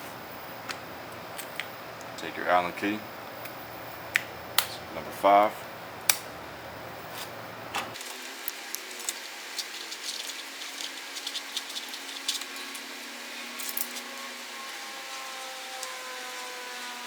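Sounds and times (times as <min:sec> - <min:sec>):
faint steady hum: 0:00.0 - 0:16.5.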